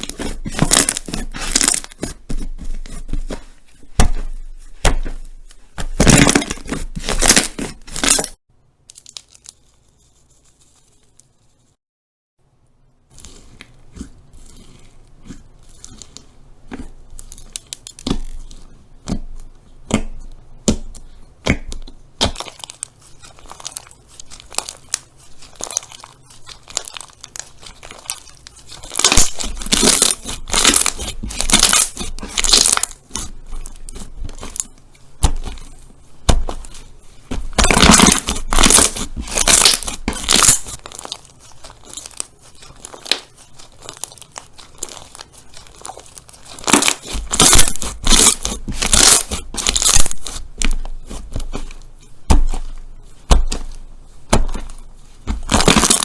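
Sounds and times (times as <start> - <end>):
slime crackling and popping: 0.0 - 9.8, 19.9 - 56.0.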